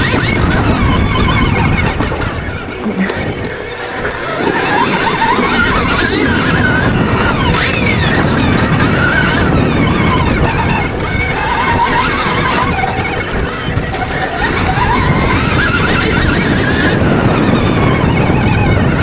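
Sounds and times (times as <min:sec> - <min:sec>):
electric motorbike motor whining: 0:00.0 - 0:19.0
rush of wind and dirt: 0:00.0 - 0:19.0.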